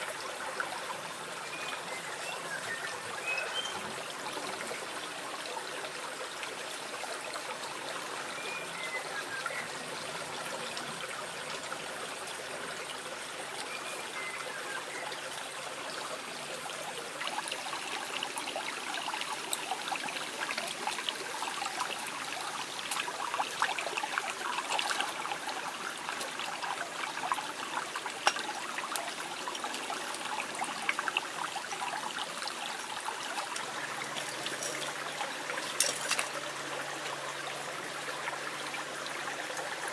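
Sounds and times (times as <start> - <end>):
shallow stream rushing: 0.0 - 39.9.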